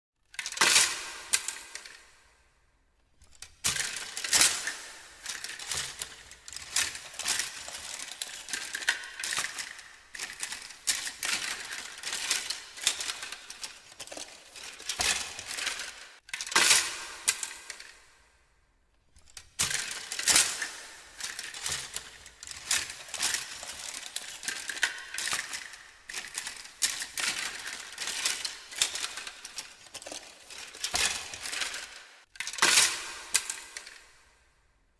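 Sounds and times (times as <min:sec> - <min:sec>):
hard objects clattering and clinking: 0:03.3 - 0:18.0, 0:19.2 - 0:34.1.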